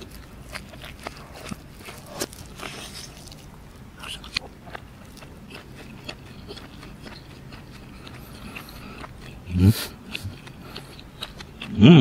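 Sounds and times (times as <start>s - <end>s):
close chewing with mouth clicks: 0.0s - 11.8s.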